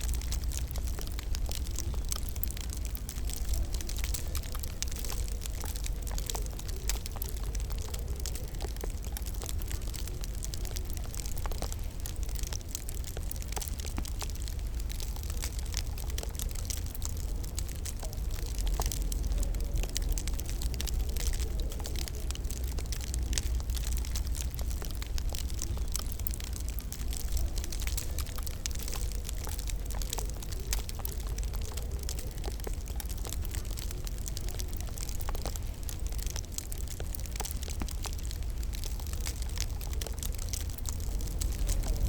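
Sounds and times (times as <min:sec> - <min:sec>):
fire low rumble: 0:00.0 - 0:42.0
wood fire crackling: 0:00.0 - 0:42.0.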